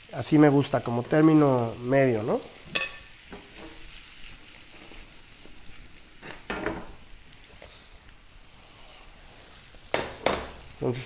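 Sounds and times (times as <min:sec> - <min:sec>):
stirring in a pan: 0:00.0 - 0:10.8
shrimp sizzling in a frying pan: 0:00.0 - 0:11.0.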